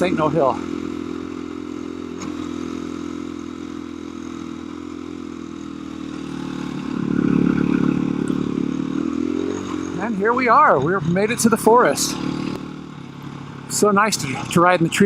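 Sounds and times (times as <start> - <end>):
dirt bike engine chugging: 0.0 - 15.0.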